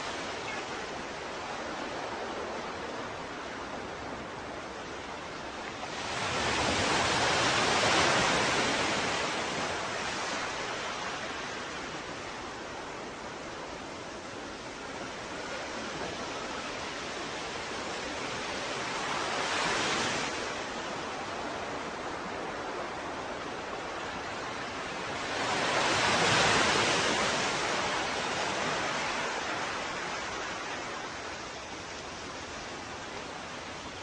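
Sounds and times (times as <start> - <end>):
waves breaking on shore: 0.0 - 34.0.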